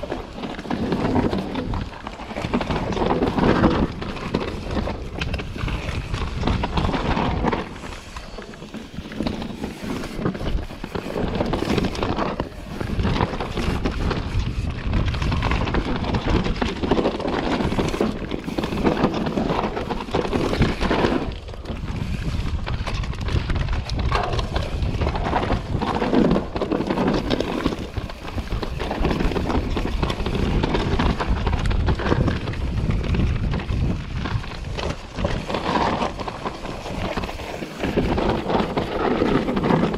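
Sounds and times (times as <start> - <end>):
bike clattering and rattling: 0.0 - 39.9
bike tyres crunching over dirt: 0.0 - 39.9
wind buffeting microphone: 0.0 - 39.9.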